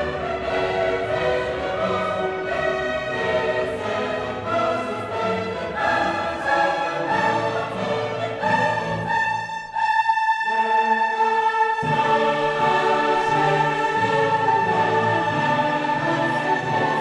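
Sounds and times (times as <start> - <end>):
orchestral music with choir: 0.0 - 17.0.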